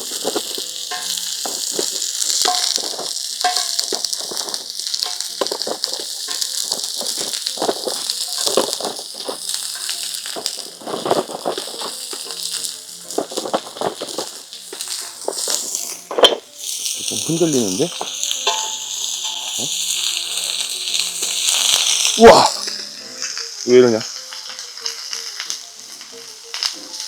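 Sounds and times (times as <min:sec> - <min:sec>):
meat sizzling on a griddle: 0:00.0 - 0:27.0.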